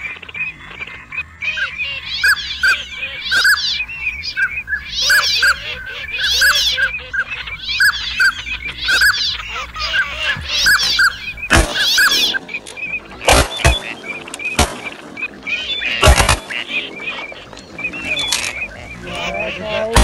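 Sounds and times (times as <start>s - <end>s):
duck calls: 0.0s - 20.0s.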